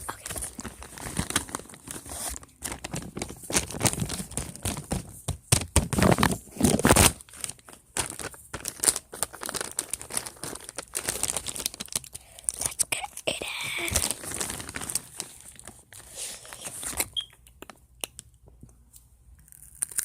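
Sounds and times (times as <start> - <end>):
crinkling and crackling: 0.0 - 20.0.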